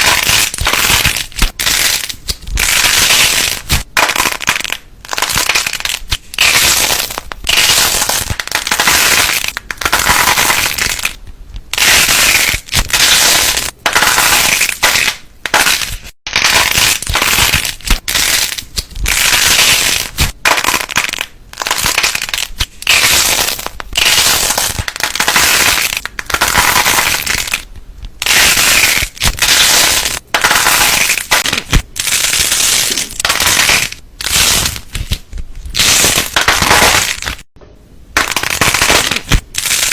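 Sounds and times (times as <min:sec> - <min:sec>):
slime crackling and popping: 0:00.0 - 0:37.5, 0:38.2 - 0:39.9.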